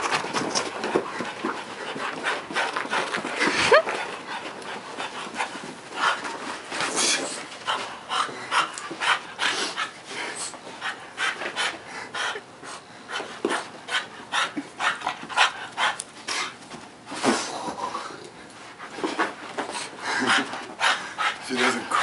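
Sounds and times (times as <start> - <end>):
dog panting: 0.0 - 16.6, 18.5 - 22.0.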